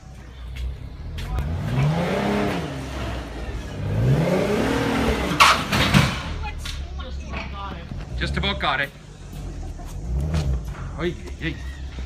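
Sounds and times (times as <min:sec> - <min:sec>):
car engine revving: 0:01.0 - 0:06.6, 0:07.9 - 0:12.0.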